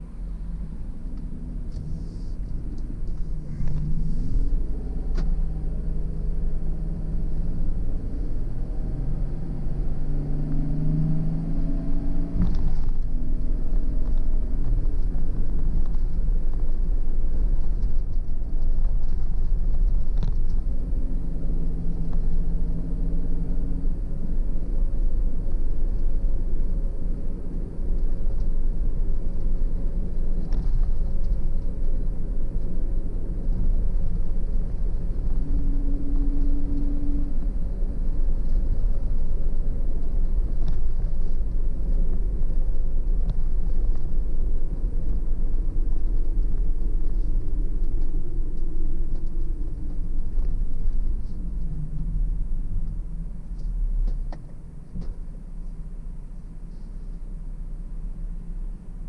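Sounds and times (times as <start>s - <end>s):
car engine hum: 0.0s - 59.0s
road rumble: 0.0s - 59.0s.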